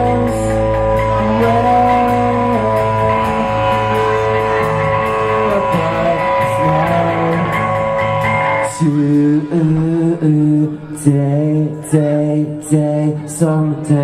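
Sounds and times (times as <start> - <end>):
live band music with guitar: 0.0 - 14.0.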